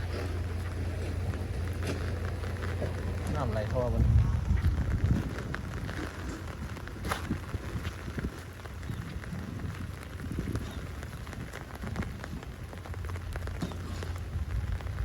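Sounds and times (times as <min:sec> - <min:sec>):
raindrops ticking on surfaces: 0:00.0 - 0:15.0
steady rain hiss: 0:00.0 - 0:15.0.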